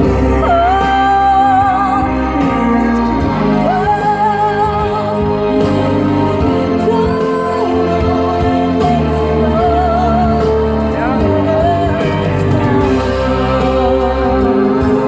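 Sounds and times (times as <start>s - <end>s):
person singing with vibrato: 0.0s - 15.0s
slow musical accompaniment: 0.0s - 15.0s.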